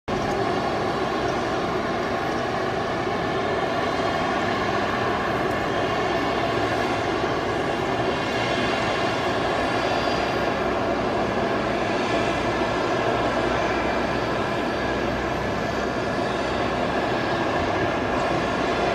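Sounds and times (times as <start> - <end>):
jet engines whining and roaring: 0.1 - 18.9.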